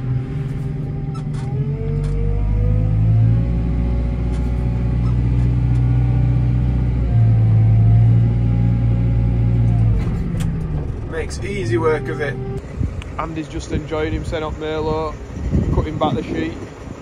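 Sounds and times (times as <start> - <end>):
diesel engine running under load: 0.0 - 17.0
engine whine rising in pitch: 0.0 - 17.0.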